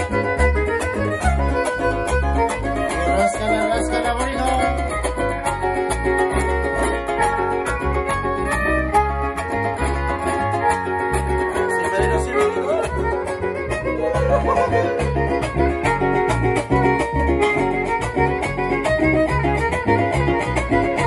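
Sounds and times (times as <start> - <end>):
rhythmic bass pulse: 0.0 - 21.0
strummed guitars: 0.0 - 21.0
violin melody: 0.0 - 21.0.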